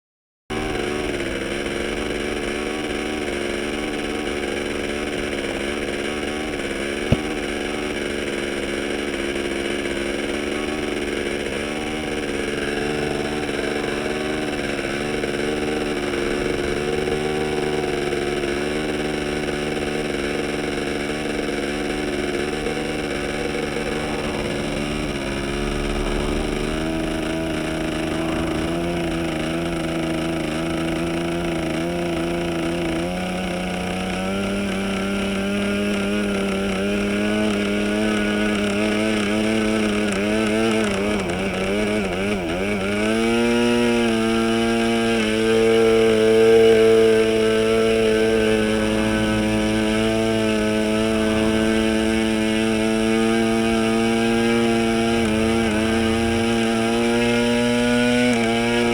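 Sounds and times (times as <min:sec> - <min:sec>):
model engine high buzz: 0:00.5 - 0:58.9.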